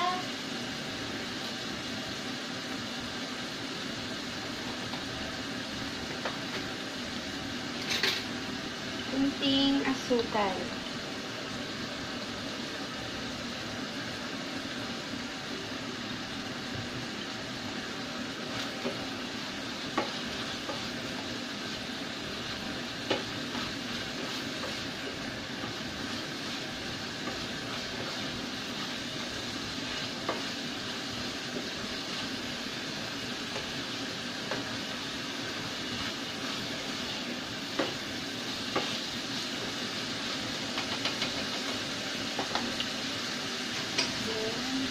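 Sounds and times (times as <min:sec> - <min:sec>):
meat sizzling in a pan: 0:00.0 - 0:44.9.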